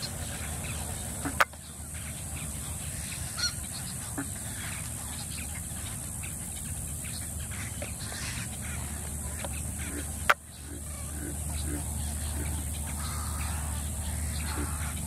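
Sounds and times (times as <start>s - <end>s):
steady low rumble: 0.0s - 15.0s
wading birds honking: 0.0s - 15.0s.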